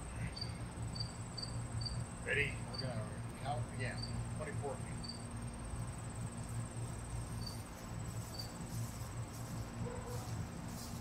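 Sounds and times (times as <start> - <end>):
insects trilling: 0.0 - 11.0
steady low hum: 0.0 - 11.0.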